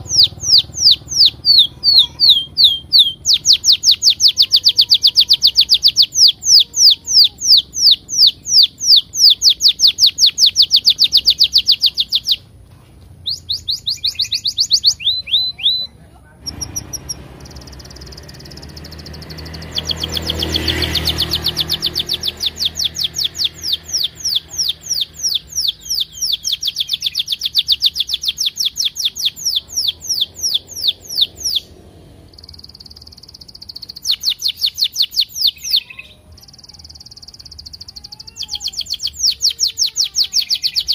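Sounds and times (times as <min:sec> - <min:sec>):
canary chirping and trilling: 0:00.0 - 0:12.5, 0:13.2 - 0:40.9.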